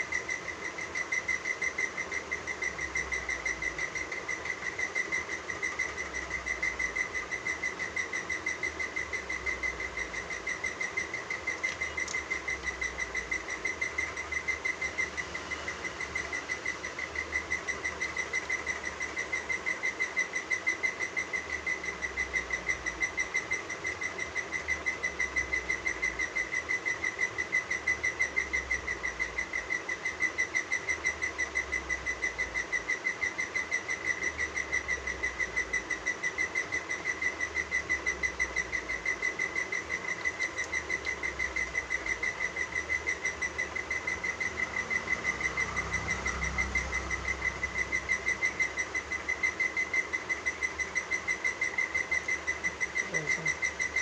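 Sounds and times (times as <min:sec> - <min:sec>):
parakeet chick chirping: 0:00.0 - 0:54.0.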